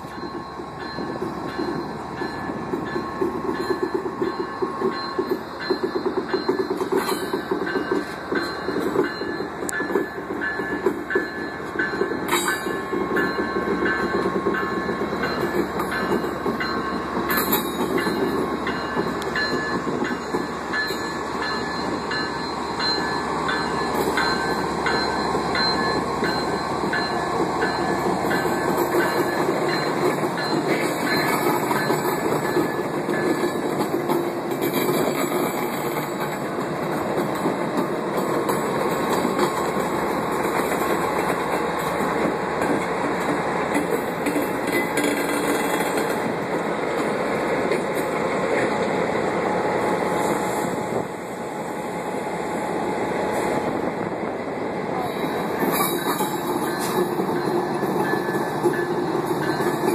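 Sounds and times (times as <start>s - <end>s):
train wheels clicking over rail joints: 0.0s - 50.3s, 55.4s - 59.9s
diesel train engine rumbling: 0.0s - 59.9s.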